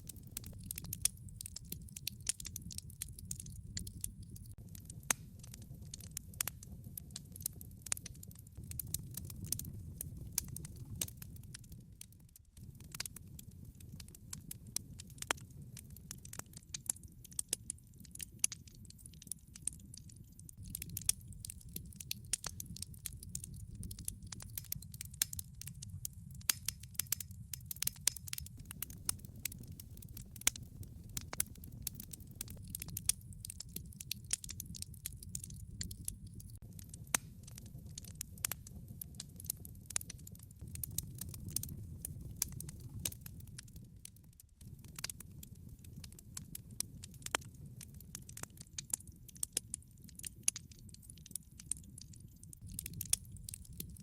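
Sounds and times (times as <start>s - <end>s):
log fire crackling: 0.0s - 54.0s.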